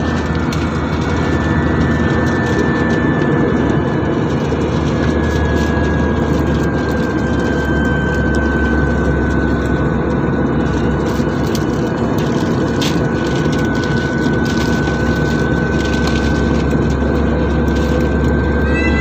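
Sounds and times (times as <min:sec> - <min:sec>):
jet engines and airflow rushing: 0:00.0 - 0:19.0
thin constant whine: 0:00.0 - 0:19.0.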